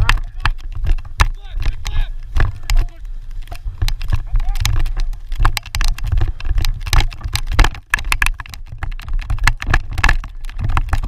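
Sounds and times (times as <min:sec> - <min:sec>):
lacrosse sticks clacking: 0:00.0 - 0:11.0.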